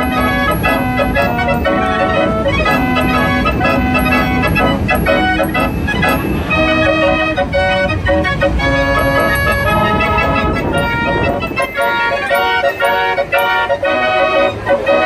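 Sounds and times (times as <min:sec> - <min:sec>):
fairground organ playing a tune: 0:00.0 - 0:15.0.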